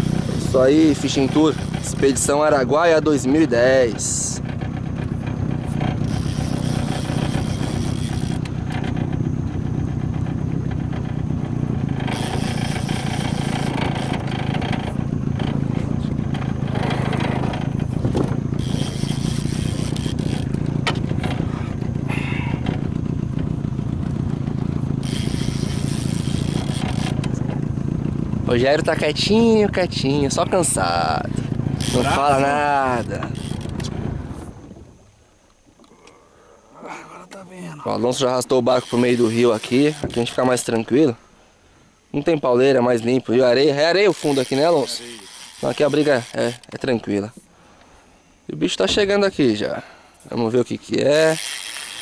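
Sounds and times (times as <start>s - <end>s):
outboard motor droning: 0.0s - 52.0s.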